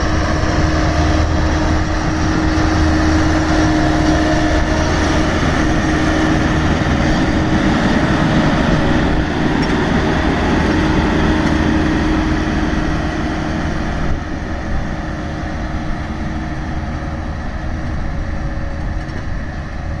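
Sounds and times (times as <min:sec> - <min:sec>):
road roller engine droning: 0:00.0 - 0:20.0.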